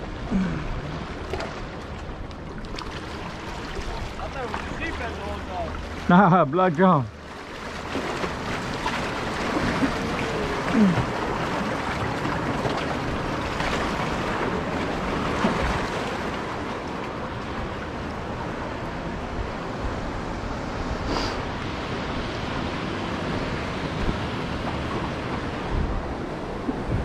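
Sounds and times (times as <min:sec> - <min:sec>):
surf splashing against rocks: 0:00.0 - 0:27.0.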